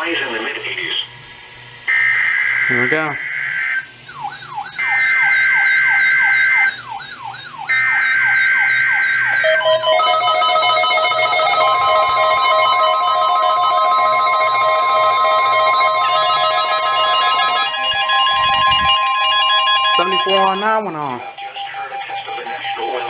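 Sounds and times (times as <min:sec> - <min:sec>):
steady alarm tone: 0:01.6 - 0:23.0
siren-like sweeping tone: 0:02.0 - 0:20.6
warbling data tones: 0:02.0 - 0:23.0.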